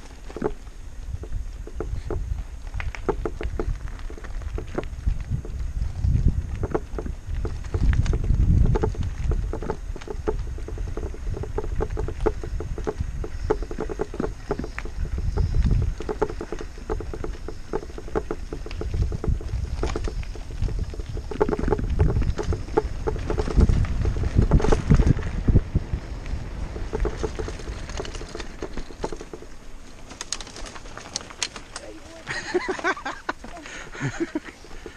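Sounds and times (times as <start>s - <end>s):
wind rumble on microphone: 0.0s - 29.9s
bike rattles and clicks: 0.0s - 34.9s
bike rolling over rough concrete: 0.0s - 34.9s.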